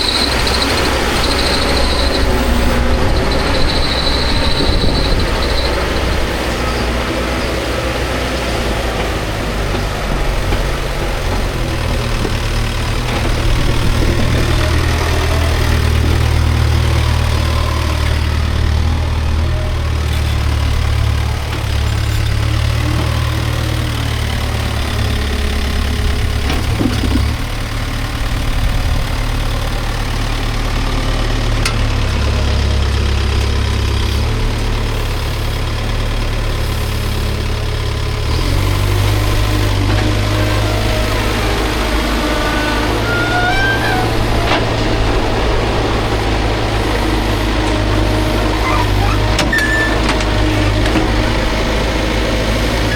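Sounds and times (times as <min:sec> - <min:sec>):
diesel engine rumbling: 0:00.0 - 0:52.9.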